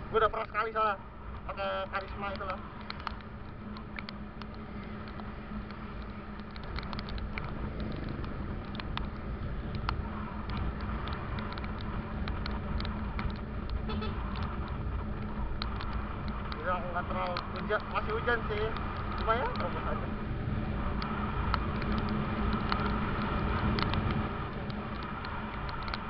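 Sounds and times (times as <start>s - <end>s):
raindrops ticking on camera: 0.2s - 26.0s
motorcycle engine cruising: 1.3s - 26.0s.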